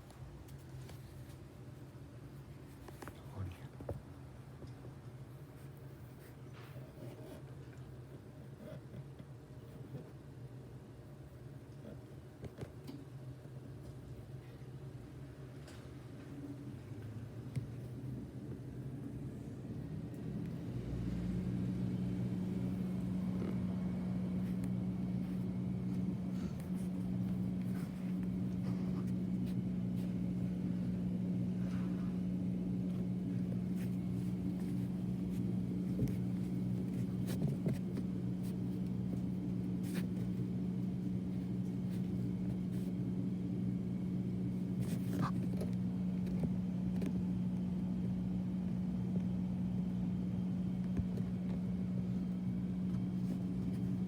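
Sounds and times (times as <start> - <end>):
water heater humming: 9.2 - 54.0.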